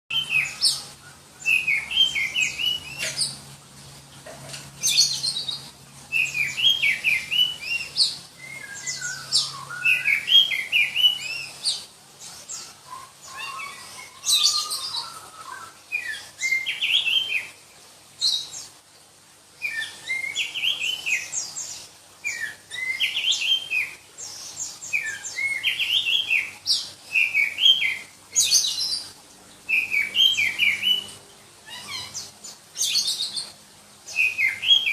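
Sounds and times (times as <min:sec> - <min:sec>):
songbird singing shrill phrases: 0:00.1 - 0:03.4, 0:04.9 - 0:17.6, 0:19.6 - 0:34.9.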